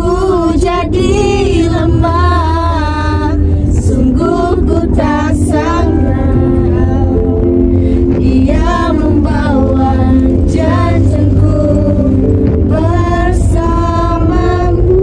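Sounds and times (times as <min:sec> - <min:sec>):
song on car stereo: 0:00.0 - 0:15.0
women singing along: 0:00.0 - 0:15.0.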